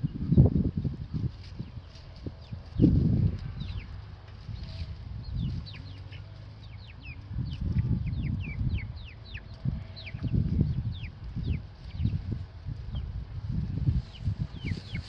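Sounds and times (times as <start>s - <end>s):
chickens peeping: 0.0s - 15.0s
wind rumble on microphone: 0.0s - 15.0s.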